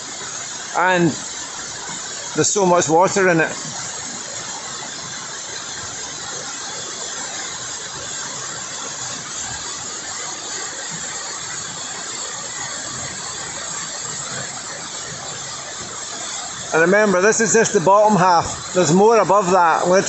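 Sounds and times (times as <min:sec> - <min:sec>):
waterfall pouring into pool: 0:00.0 - 0:20.0.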